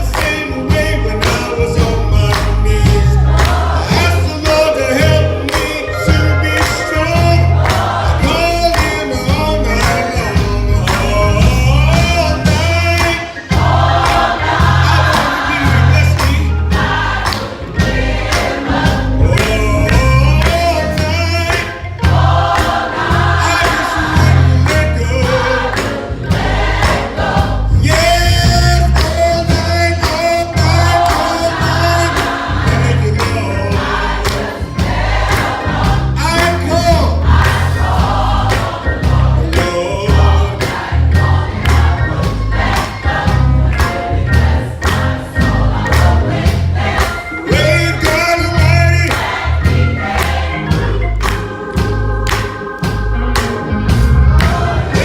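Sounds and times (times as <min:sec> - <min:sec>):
band with low bass beat: 0:00.0 - 0:55.0
choir singing: 0:00.0 - 0:55.0.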